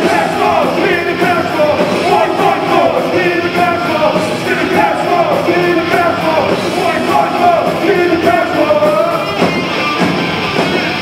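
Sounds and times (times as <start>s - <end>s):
person singing and shouting: 0.0s - 9.4s
drums: 0.0s - 11.0s
electric guitars: 0.0s - 11.0s.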